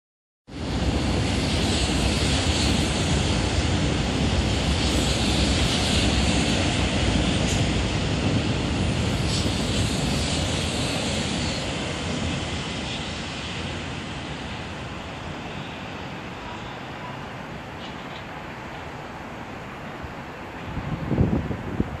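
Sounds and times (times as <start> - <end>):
train wheels rumbling on rails: 0.5 - 16.8, 17.6 - 19.1.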